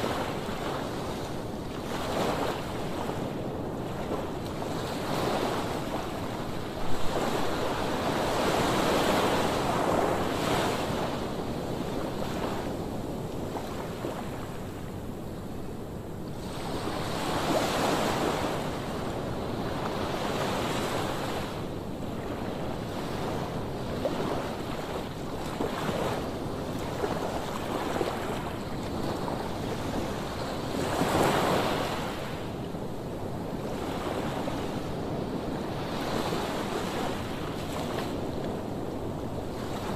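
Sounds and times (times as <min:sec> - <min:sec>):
sea waves breaking on shore: 0:00.0 - 0:15.2, 0:16.4 - 0:39.9.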